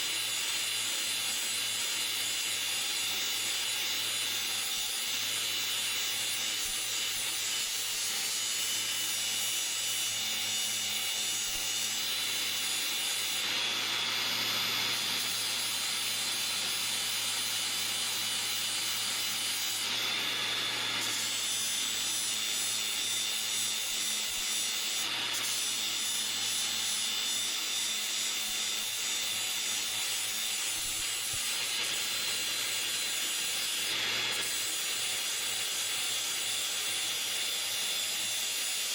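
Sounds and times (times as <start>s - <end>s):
grinder grinding steel: 0.0s - 38.9s
grinder motor hum: 0.1s - 38.9s.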